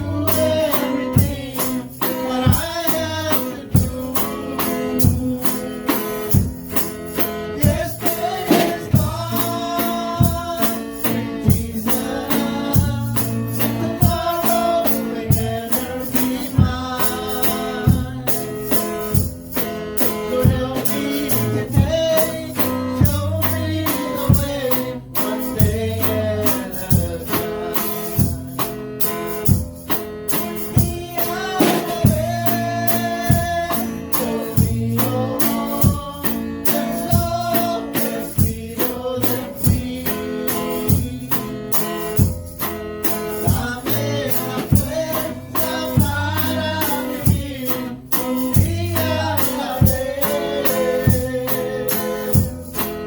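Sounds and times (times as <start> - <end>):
person singing: 0.0 - 6.4, 7.1 - 19.1, 20.0 - 28.6, 30.6 - 42.2, 43.3 - 52.6
band with guitar and beat: 0.0 - 53.0.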